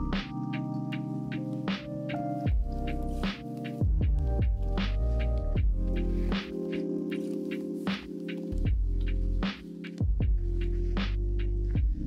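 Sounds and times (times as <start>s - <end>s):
electronic music with synth chords: 0.0s - 12.0s.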